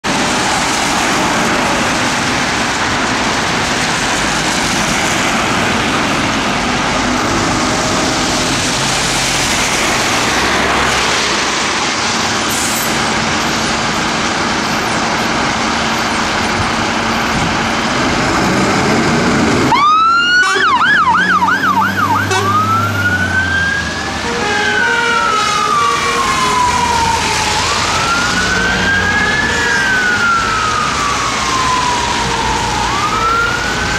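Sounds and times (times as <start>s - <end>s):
heavy rain on wet ground: 0.0s - 19.8s, 23.5s - 33.9s
fire engine diesel engine: 0.0s - 33.9s
fire engine siren wailing: 0.0s - 33.9s
traffic: 0.0s - 33.9s.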